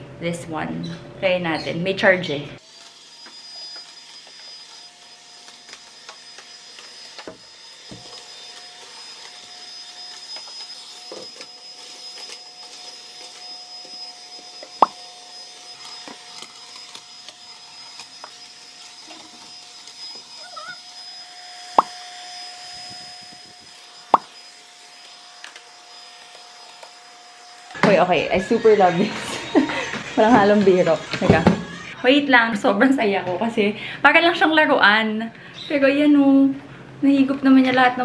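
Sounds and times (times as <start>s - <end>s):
stick vacuum motor whine: 1.0s - 32.1s.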